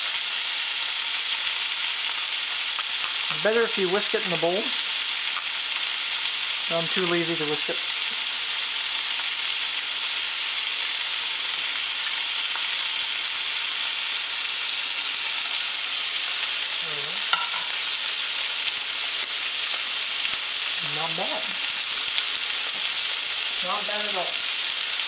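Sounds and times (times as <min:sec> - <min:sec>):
food sizzling in frying pans: 0:00.0 - 0:25.0.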